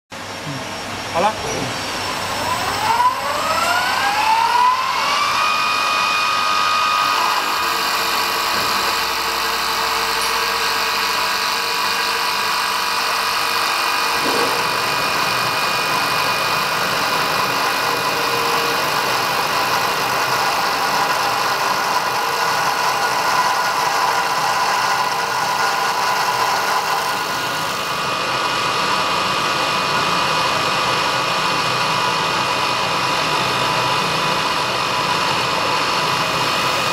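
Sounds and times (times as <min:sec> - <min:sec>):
lathe motor whine: 0:00.3 - 0:36.9.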